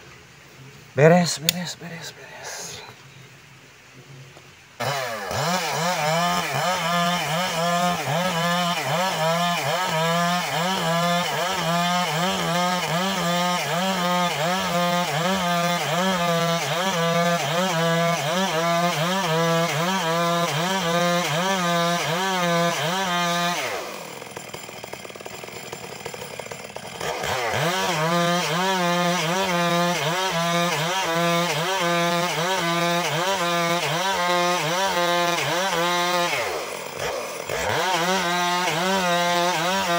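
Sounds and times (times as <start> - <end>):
chainsaw cutting log: 4.8 - 39.9.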